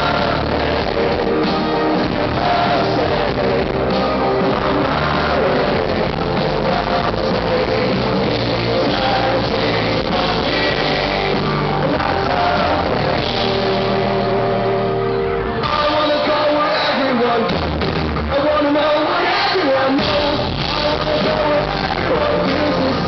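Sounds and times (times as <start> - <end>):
person singing: 0.0 - 14.9, 15.5 - 23.0
live rock band playing: 0.0 - 23.0.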